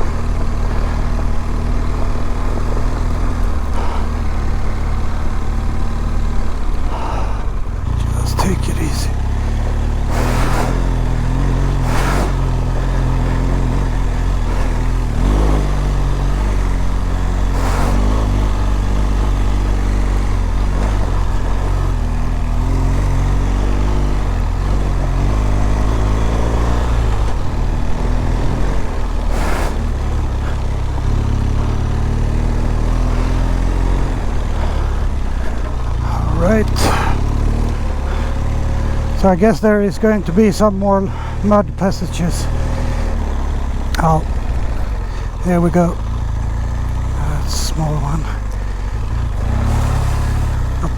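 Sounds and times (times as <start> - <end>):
motorcycle engine at low revs: 0.0 - 50.9.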